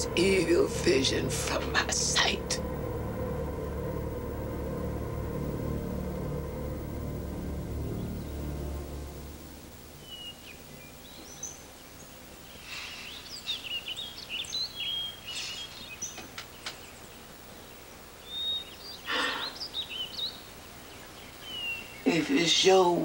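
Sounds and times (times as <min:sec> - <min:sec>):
birds chirping and twittering: 0:00.0 - 0:23.0
low musical drone: 0:00.0 - 0:23.0.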